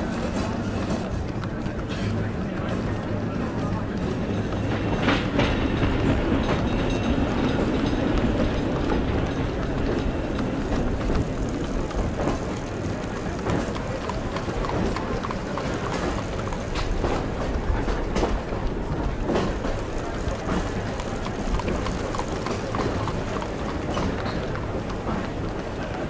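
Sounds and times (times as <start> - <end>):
horse hooves clip-clopping: 0.0 - 26.0
tram rumbling on rails: 0.0 - 26.0.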